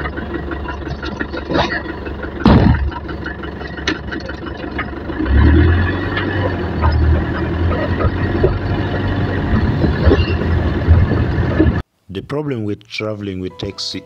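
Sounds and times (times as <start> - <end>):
cab rattles: 0.0 - 11.8
van engine drone: 0.0 - 11.9.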